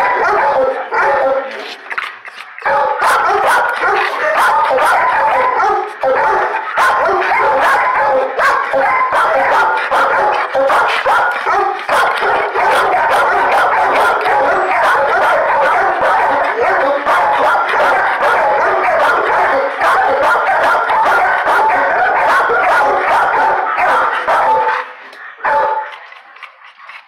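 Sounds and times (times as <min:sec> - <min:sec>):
dogs barking: 0:00.0 - 0:27.0.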